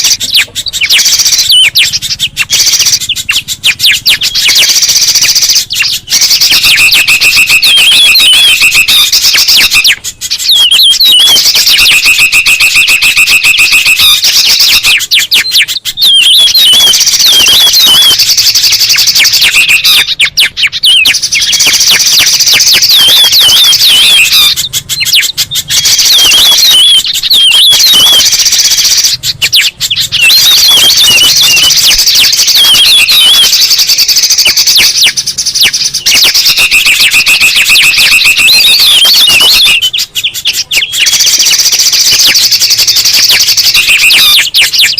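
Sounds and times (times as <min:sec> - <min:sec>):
songbirds calling: 0:00.0 - 0:44.9.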